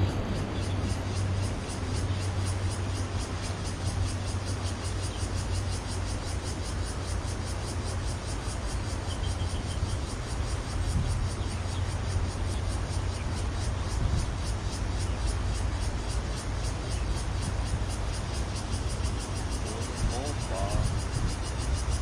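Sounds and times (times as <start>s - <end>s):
shallow river flowing: 0.0s - 22.0s
wind rumbling on microphone: 0.0s - 22.0s.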